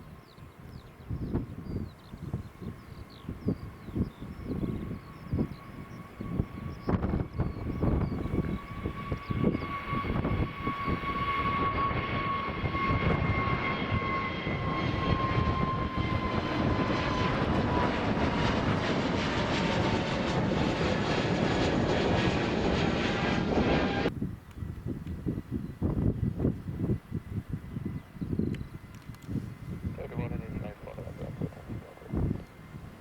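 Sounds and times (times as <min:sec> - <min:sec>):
jet engines roaring with high whine: 0:00.0 - 0:33.0.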